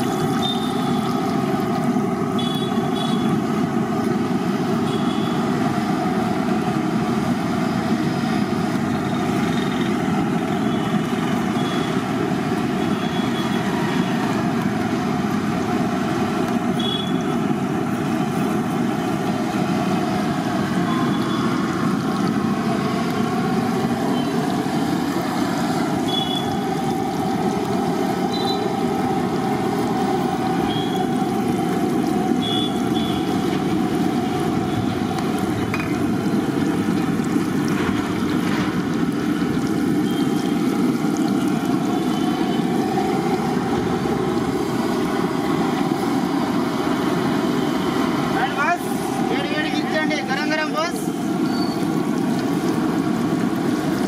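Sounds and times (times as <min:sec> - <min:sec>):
batter sizzling in hot oil: 0:00.0 - 0:54.0.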